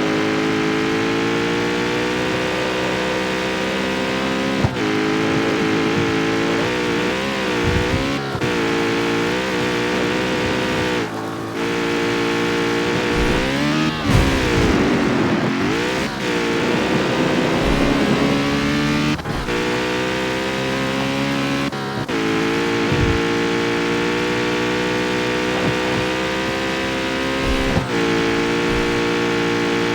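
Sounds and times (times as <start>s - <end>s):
sports car engine running: 0.0s - 29.9s.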